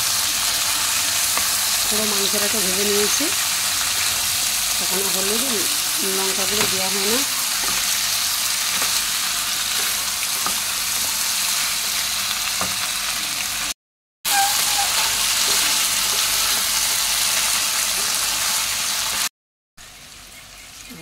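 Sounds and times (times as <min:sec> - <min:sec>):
meat sizzling in hot oil: 0:00.0 - 0:19.3.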